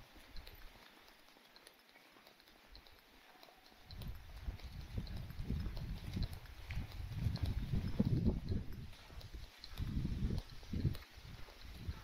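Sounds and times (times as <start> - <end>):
faint irregular ticks: 0.0 - 12.0.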